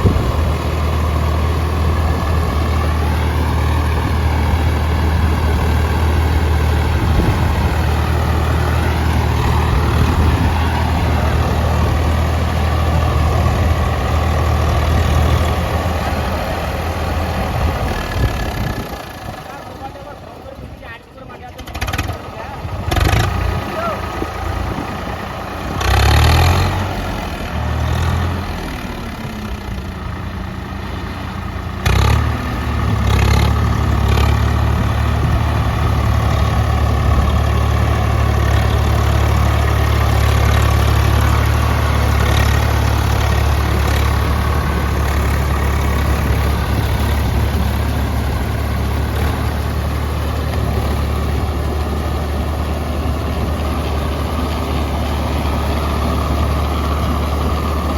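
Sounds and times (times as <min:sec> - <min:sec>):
heavy diesel engine revving: 0:00.0 - 0:20.7, 0:21.4 - 0:57.9.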